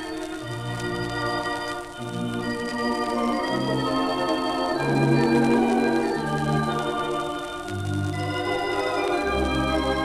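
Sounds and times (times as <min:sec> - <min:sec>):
theatre organ playing: 0:00.0 - 0:10.0.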